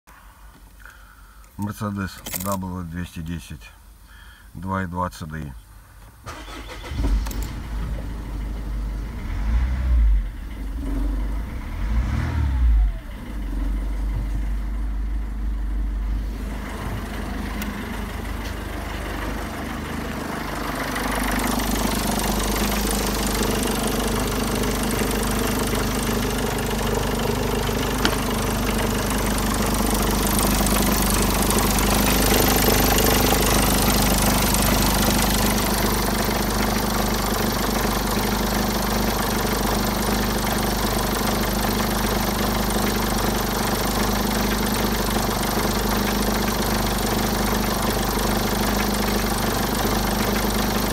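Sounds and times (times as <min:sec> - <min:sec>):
diesel engine idling: 0:06.3 - 0:50.9.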